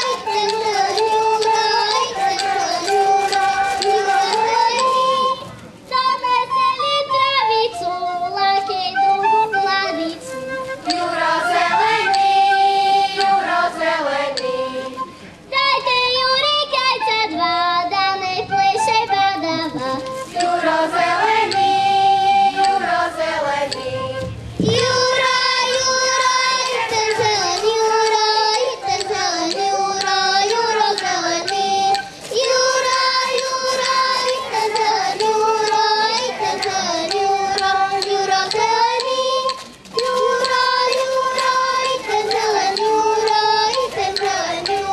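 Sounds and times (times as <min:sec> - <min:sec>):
girls singing folk song: 0:00.0 - 0:44.9.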